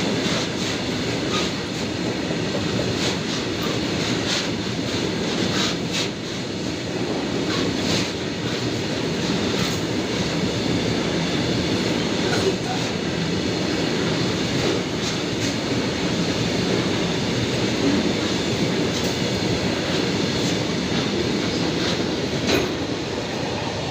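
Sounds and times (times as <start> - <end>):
freight train rumbling past: 0.0 - 23.9.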